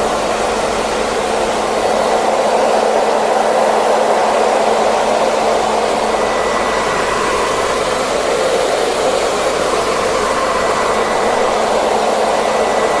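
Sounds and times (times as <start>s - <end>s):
hairdryer running: 0.0s - 13.0s.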